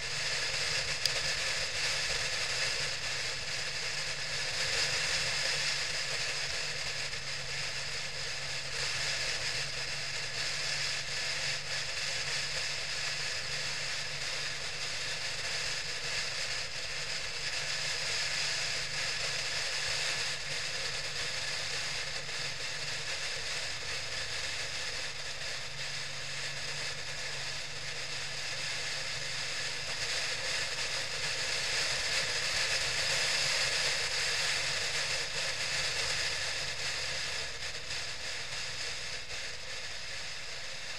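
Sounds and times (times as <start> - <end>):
motorcycle engine hum: 0.0 - 40.9
road noise: 0.0 - 40.9.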